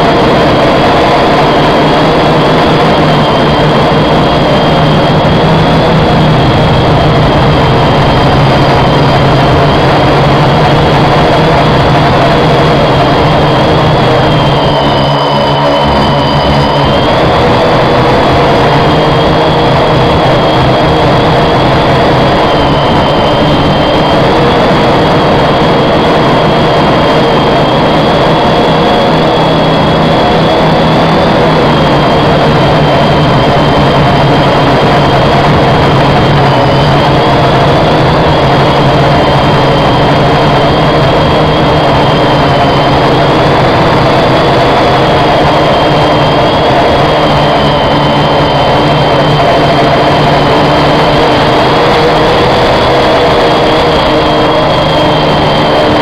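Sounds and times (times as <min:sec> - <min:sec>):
drone motors whining: 0:00.0 - 0:56.0.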